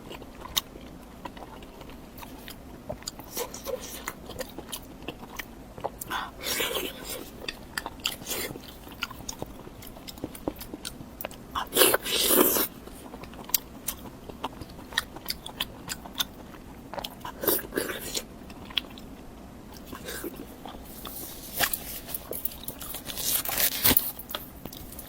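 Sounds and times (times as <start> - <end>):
chewing with wet mouth clicks: 0.0 - 23.2.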